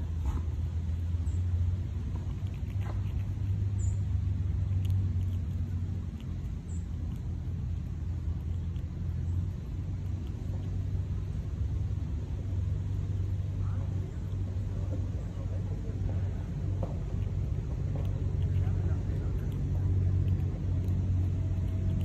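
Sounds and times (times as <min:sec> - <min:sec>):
low engine rumble: 0:00.0 - 0:22.0.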